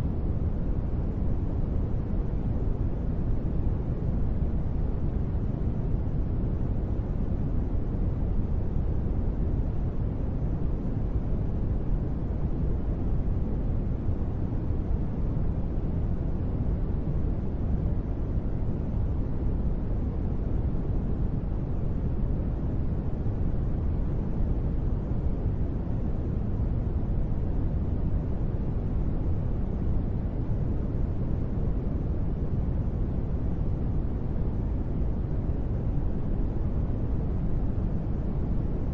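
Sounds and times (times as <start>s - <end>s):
muffled gentle rain noise: 0.0s - 38.9s.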